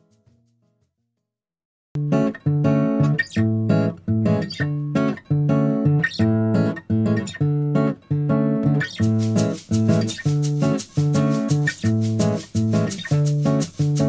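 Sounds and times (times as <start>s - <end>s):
acoustic guitar strumming: 2.0s - 14.0s.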